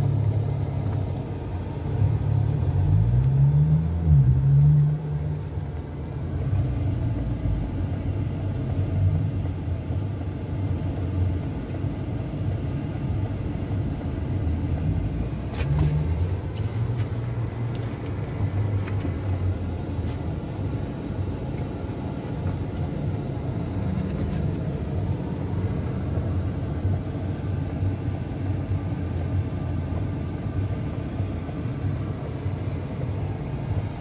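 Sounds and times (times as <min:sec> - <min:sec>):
van engine rumble from inside: 0:00.0 - 0:34.0.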